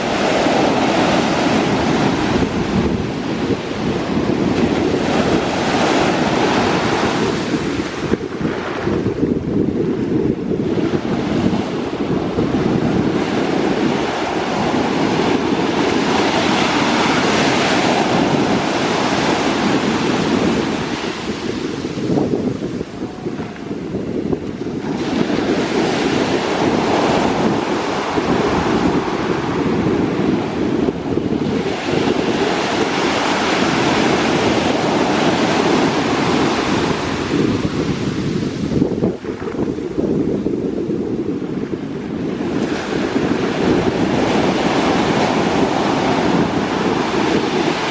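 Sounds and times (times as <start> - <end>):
ocean surf breaking: 0.0 - 47.9
wind buffeting microphone: 0.0 - 47.9.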